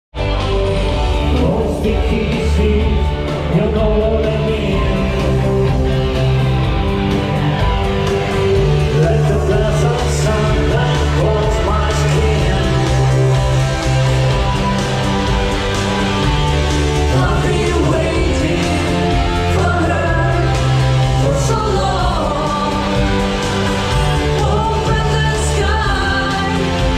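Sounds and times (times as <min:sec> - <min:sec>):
rock music: 0:00.1 - 0:26.9.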